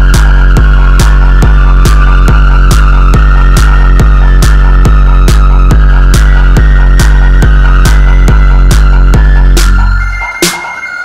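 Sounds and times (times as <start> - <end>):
kick drum: 0.0 - 10.8
distorted bass drone: 0.0 - 10.9
steady high tone: 0.0 - 11.0.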